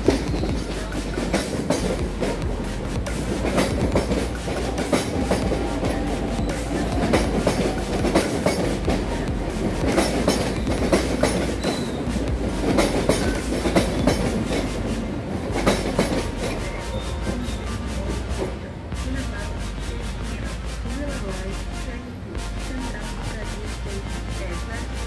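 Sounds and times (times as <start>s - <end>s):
wheels clacking over rail joints: 0.0s - 22.2s
low train running noise: 0.0s - 25.0s.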